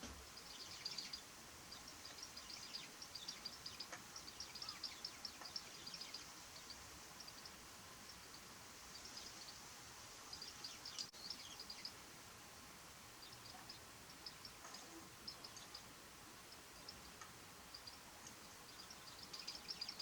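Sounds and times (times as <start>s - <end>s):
faint steady outdoor hiss: 0.0s - 20.0s.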